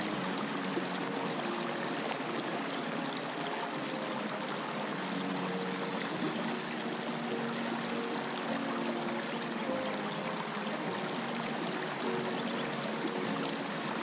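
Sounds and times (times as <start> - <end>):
stream babbling over stones: 0.0 - 14.0.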